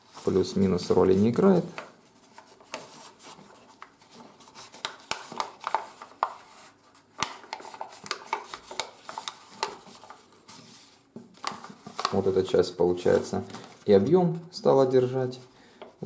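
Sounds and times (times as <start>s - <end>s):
paper crackling and rustling: 0.1s - 14.2s.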